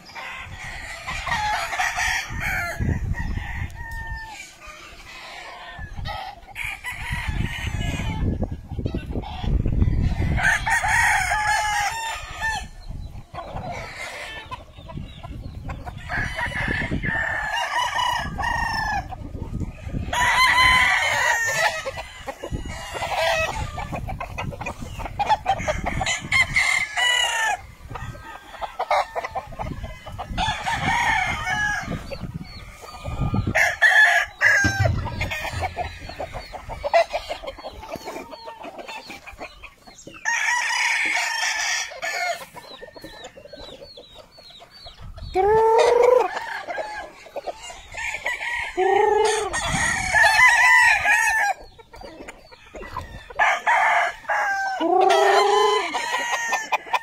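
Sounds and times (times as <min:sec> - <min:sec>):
roosters crowing: 0:00.0 - 0:57.0.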